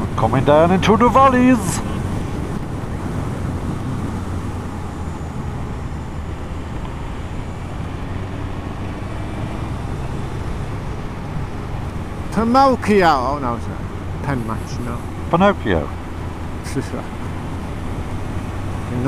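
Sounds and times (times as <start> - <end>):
motorcycle engine hum: 0.0 - 19.0
wind and road noise: 0.0 - 19.0.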